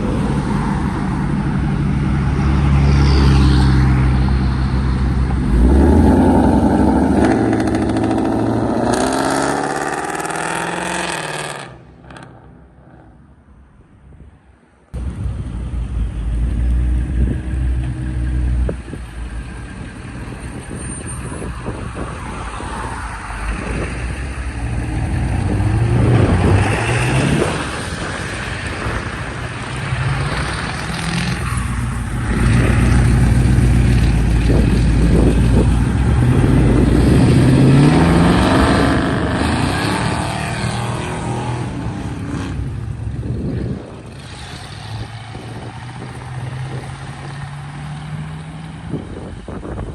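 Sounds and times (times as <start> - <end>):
car engines revving: 0.0 - 13.3, 15.0 - 49.9.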